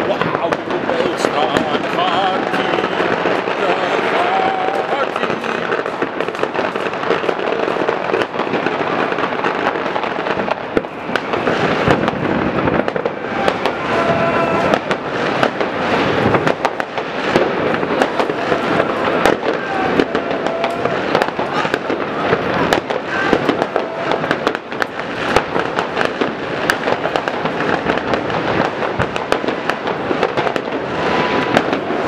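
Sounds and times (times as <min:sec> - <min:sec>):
fireworks crackling and banging: 0:00.0 - 0:32.0
firework whistles: 0:01.1 - 0:32.0.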